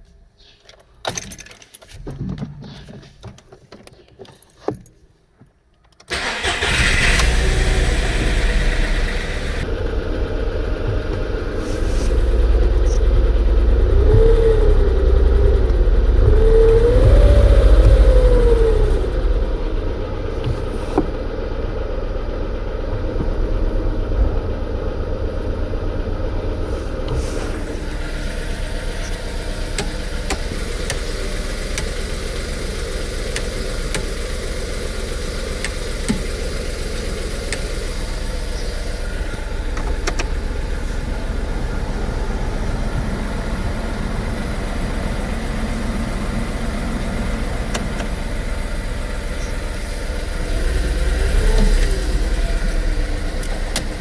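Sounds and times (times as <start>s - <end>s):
car engine revving: 6.1s - 21.2s, 23.0s - 54.0s
car engine idling: 6.1s - 54.0s.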